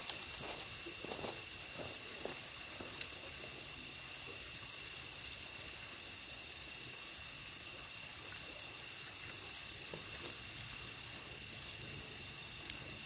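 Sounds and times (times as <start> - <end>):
campfire crackles: 0.0 - 13.0.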